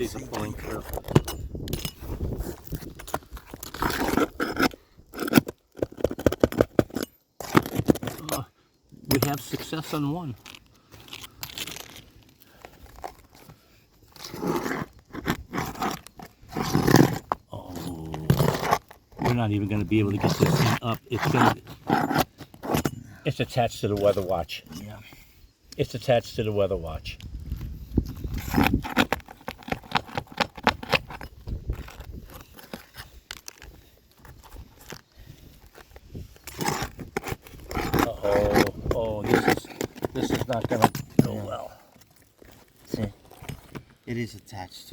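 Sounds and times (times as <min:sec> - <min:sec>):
shingles scraping and tearing: 0:00.0 - 0:23.2, 0:28.0 - 0:44.1.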